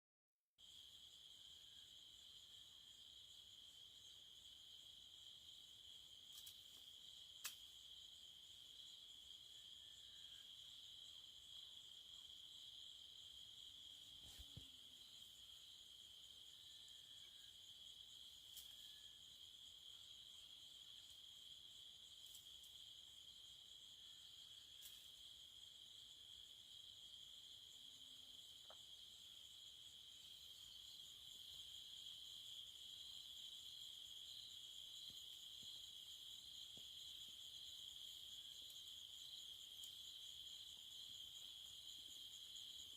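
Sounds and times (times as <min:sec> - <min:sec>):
insects trilling: 0:00.6 - 0:42.9.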